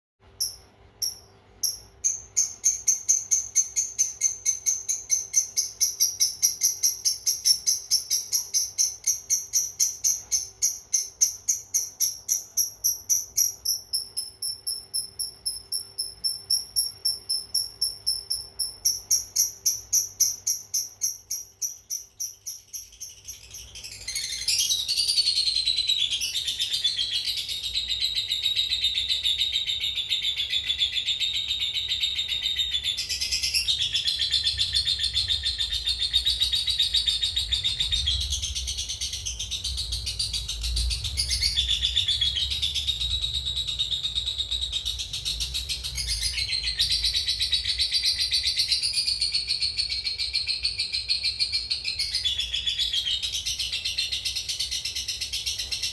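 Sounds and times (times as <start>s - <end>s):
bird fast chattering trill: 0.3s - 55.9s.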